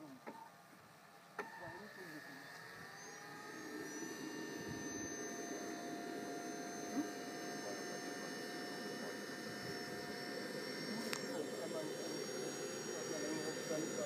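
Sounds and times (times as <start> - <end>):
model jet turbines whining: 0.0 - 14.0.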